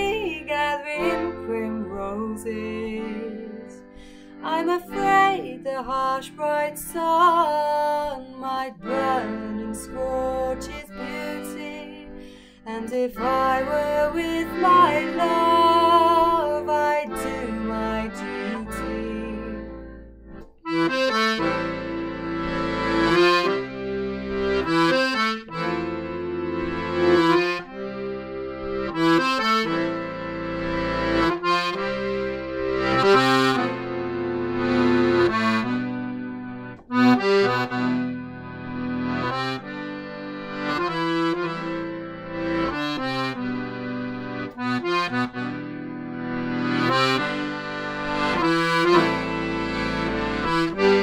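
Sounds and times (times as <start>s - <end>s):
piano accordion folk tune: 0.0s - 51.0s.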